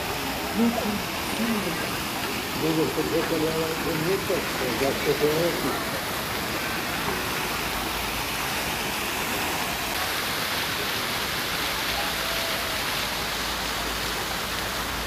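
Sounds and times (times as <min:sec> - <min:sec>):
fountain jets splashing: 0:00.0 - 0:15.0.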